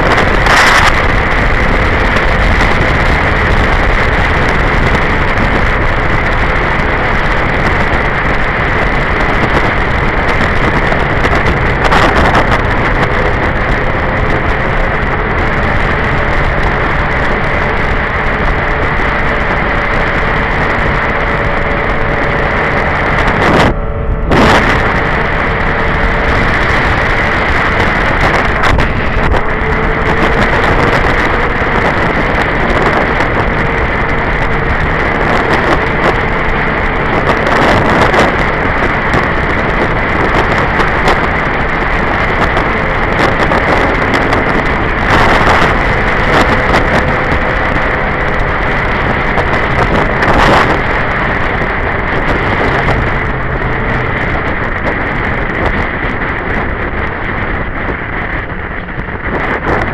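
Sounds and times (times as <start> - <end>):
motorcycle engine at speed: 0.0 - 59.9
wind buffeting microphone: 0.0 - 59.9.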